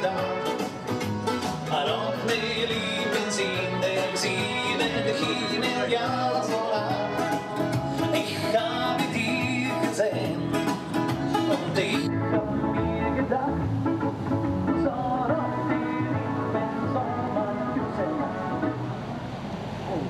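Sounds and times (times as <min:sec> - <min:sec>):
live country dance music: 0:00.0 - 0:19.0.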